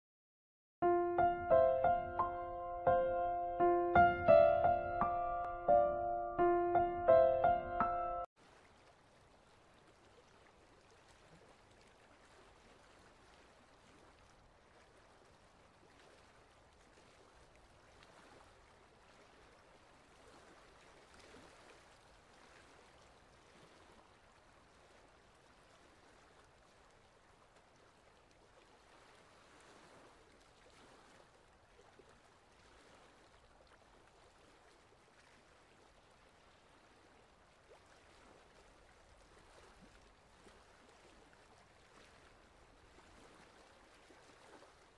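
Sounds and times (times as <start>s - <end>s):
water lapping against boat: 8.4s - 44.9s.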